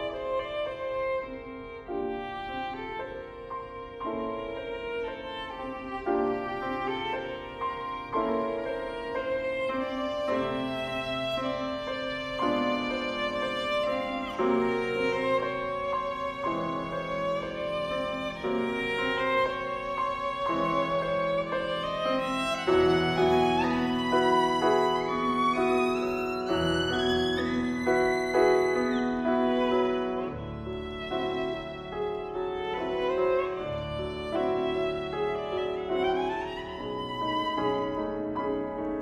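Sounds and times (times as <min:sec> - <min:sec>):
piano chords: 0:00.0 - 0:39.0
violin slow melody: 0:00.0 - 0:39.0.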